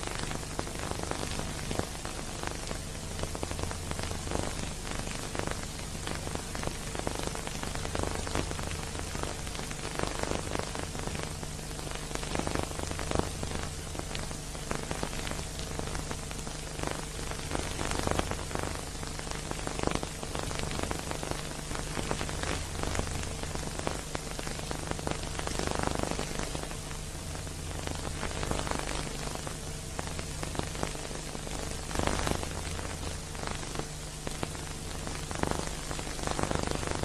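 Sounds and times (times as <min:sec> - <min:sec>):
film crackle and hiss: 0:00.0 - 0:37.0
low steady hum: 0:00.0 - 0:37.0.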